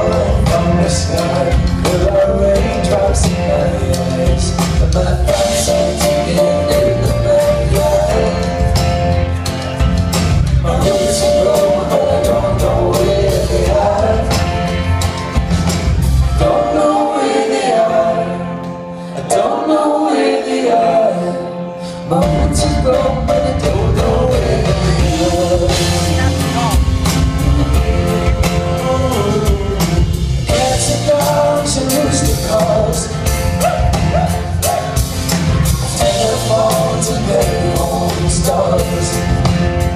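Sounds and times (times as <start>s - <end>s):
voices singing: 0.0s - 9.3s, 10.5s - 15.1s, 16.3s - 39.9s
live folk band playing: 0.0s - 39.9s.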